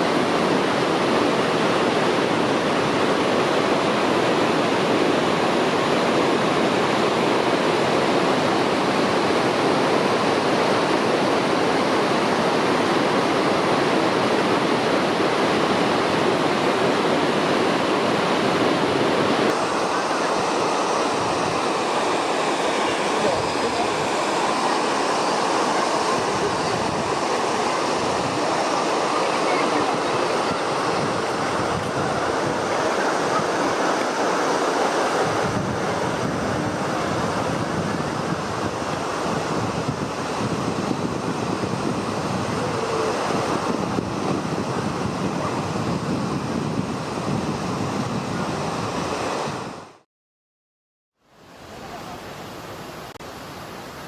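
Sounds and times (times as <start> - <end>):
river water rushing: 0.0 - 50.0, 51.2 - 54.0.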